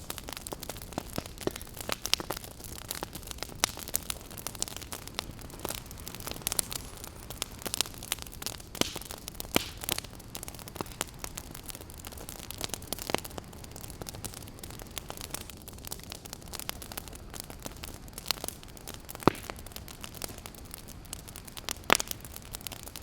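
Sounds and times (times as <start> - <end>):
campfire crackling and popping: 0.0 - 23.0
low hiss: 0.0 - 23.0.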